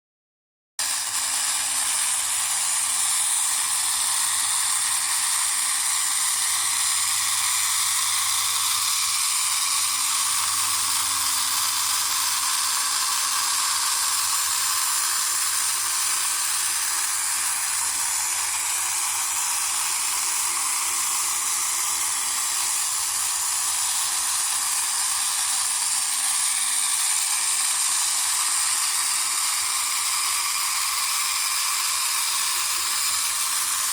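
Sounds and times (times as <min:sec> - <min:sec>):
toy motor whirring: 0:00.8 - 0:33.9.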